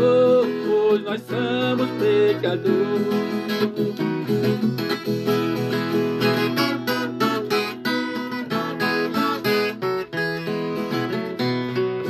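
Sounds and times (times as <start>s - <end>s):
folk guitar picked and strummed: 0.0s - 12.0s.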